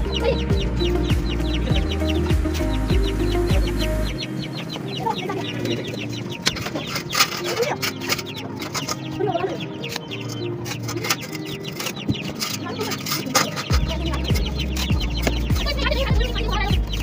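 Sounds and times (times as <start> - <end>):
chickens clucking: 0.0 - 17.0
fast high chirping: 0.0 - 17.0.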